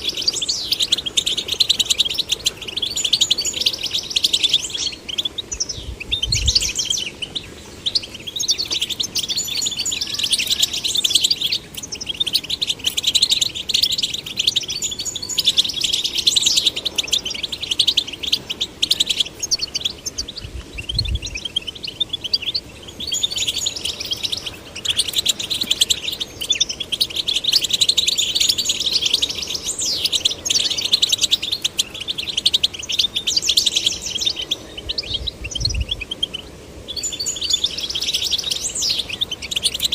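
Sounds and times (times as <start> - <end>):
goldfinch twittering and trilling: 0.0 - 39.9.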